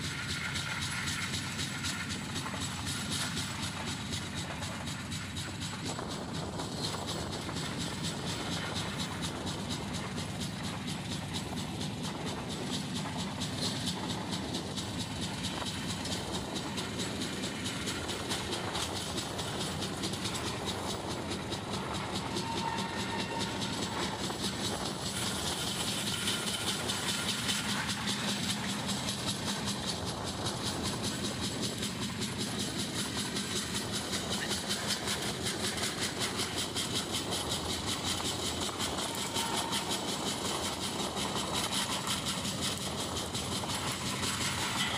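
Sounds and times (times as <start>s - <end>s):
train rumble from aboard: 0.0s - 44.9s
wheels clattering over rails: 0.0s - 44.9s.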